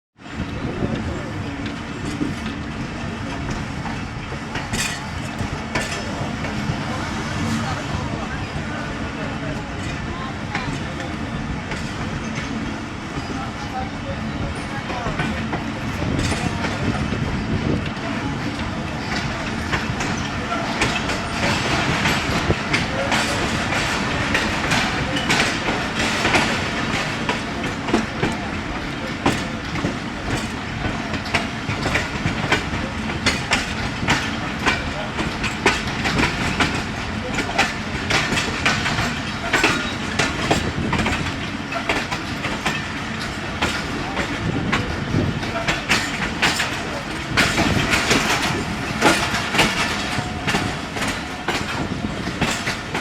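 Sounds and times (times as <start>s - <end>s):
train coaches rumbling: 0.2s - 53.0s
wheel clatter over rail joints: 0.3s - 53.0s.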